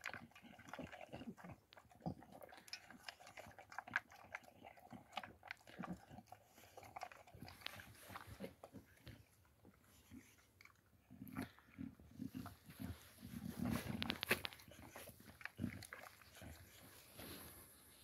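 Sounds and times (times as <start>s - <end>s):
dog chewing and gulping: 0.0s - 17.5s.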